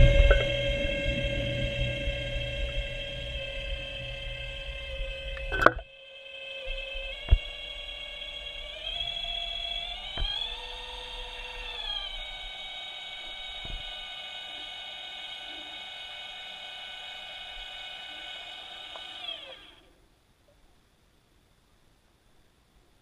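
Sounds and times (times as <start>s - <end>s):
small motor whine: 0.0s - 20.0s.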